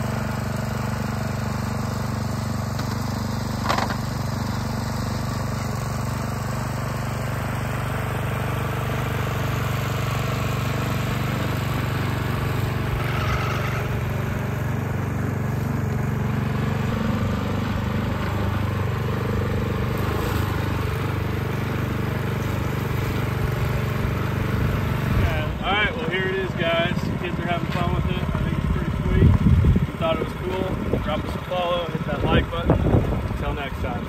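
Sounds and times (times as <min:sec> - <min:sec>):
small engine running at low speed: 0:00.0 - 0:34.0.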